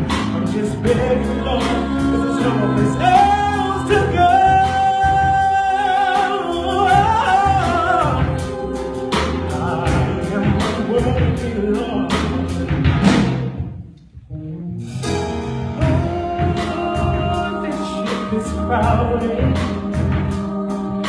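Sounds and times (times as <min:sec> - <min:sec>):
musical theatre accompaniment: 0:00.0 - 0:21.0.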